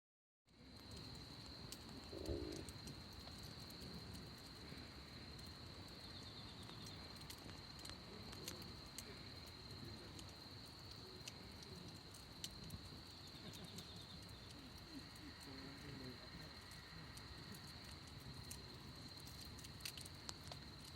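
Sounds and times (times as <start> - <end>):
wood fire crackling and popping: 0.5 - 20.9.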